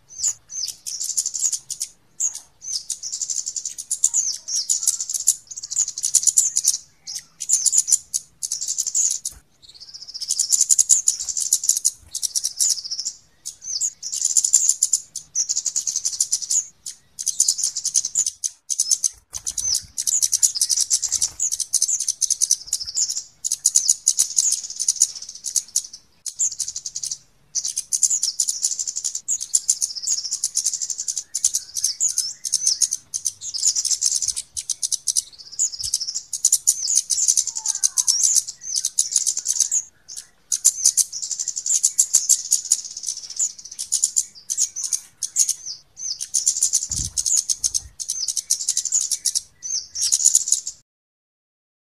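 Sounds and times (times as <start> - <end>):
flowerpeckers chirping: 0.0 - 50.8.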